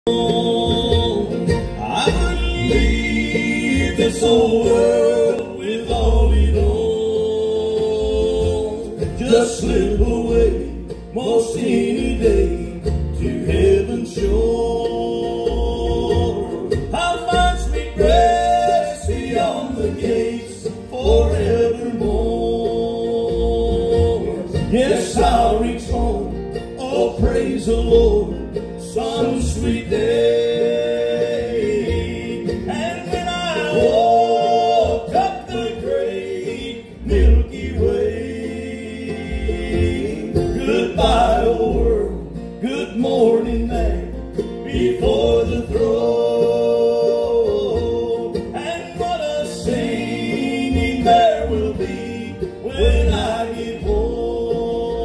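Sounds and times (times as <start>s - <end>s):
bluegrass gospel band playing: 0.0s - 55.0s.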